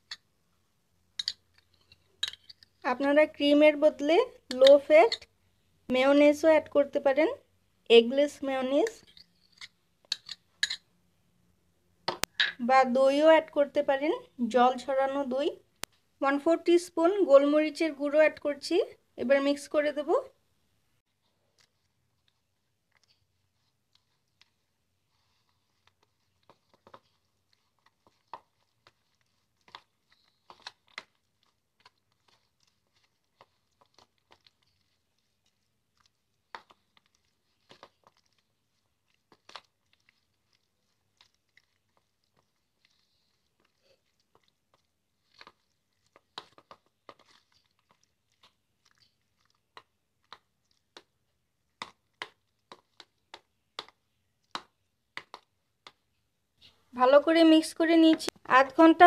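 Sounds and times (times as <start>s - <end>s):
spoon stirring wet food: 0.0s - 11.0s, 21.0s - 59.0s.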